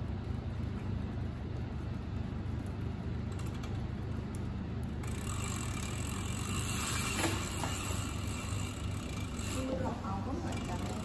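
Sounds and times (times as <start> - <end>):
bike chain whirring: 0.0 - 11.0.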